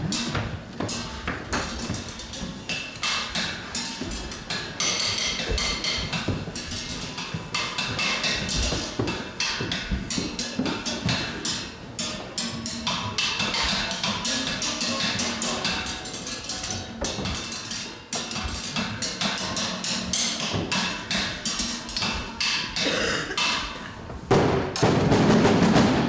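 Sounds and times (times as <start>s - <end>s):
knocking on wood blocks and drums: 0.0s - 26.0s.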